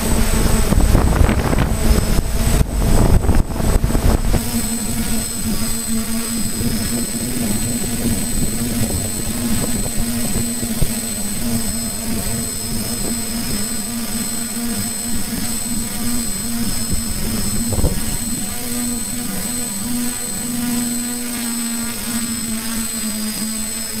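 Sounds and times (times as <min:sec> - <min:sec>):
drone motors whirring: 0:00.0 - 0:24.0
high whine: 0:00.0 - 0:24.0.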